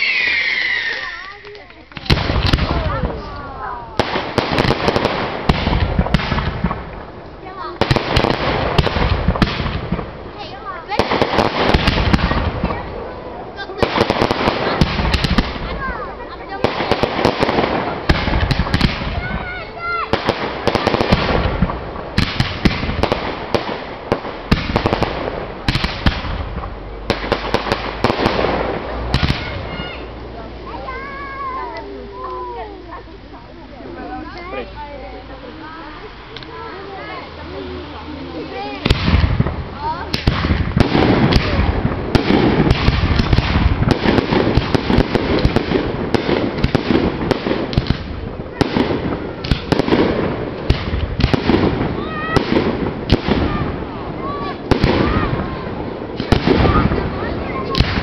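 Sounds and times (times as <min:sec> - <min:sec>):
fireworks crackling hiss: 0:00.0 - 0:58.0
fireworks popping and banging: 0:00.0 - 0:58.0.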